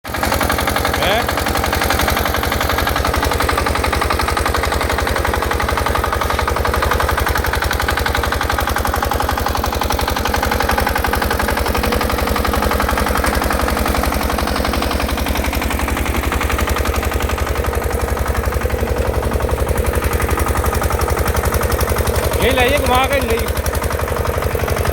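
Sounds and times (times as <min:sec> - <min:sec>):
single-cylinder diesel engine running: 0:00.0 - 0:24.9.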